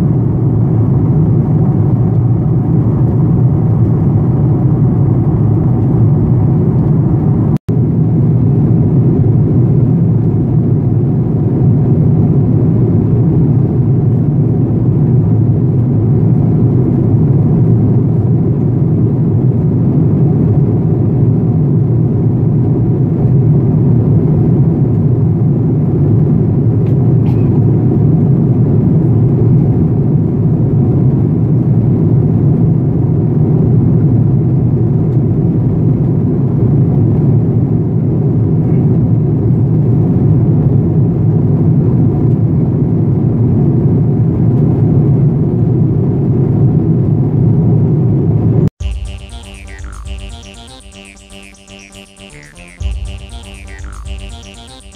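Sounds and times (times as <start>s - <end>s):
jet airliner cabin rumble: 0.0s - 48.5s.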